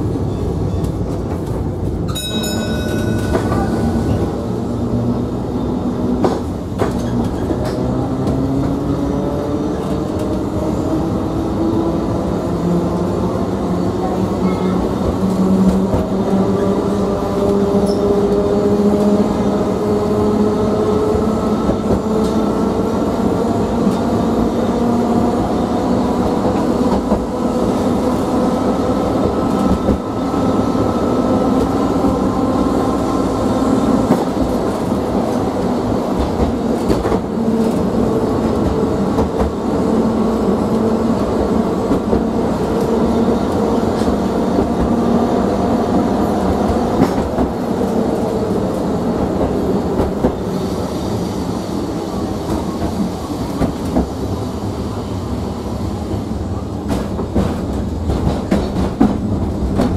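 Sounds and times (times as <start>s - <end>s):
tram wheels rumbling on rail: 0.0s - 59.9s.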